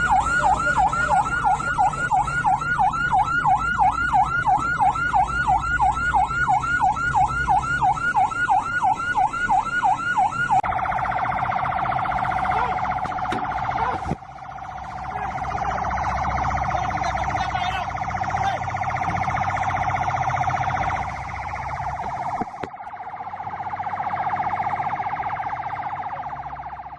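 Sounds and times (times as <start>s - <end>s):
electronic siren yelping: 0.0s - 26.9s
low engine rumble: 0.0s - 26.9s.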